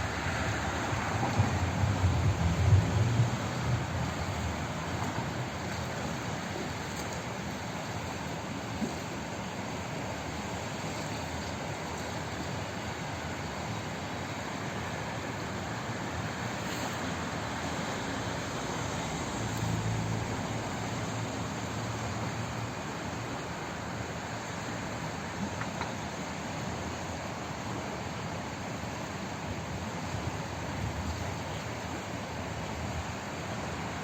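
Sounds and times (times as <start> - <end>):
water rushing: 0.0 - 34.0.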